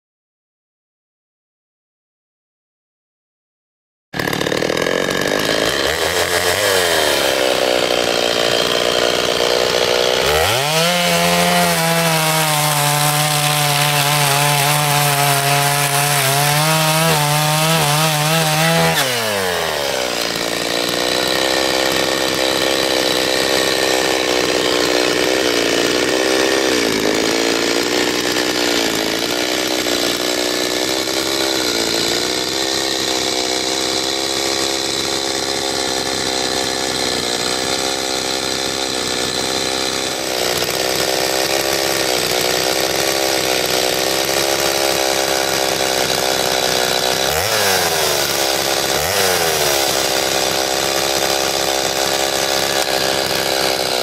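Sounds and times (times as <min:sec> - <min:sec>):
chainsaw cutting log: 0:04.2 - 0:54.0.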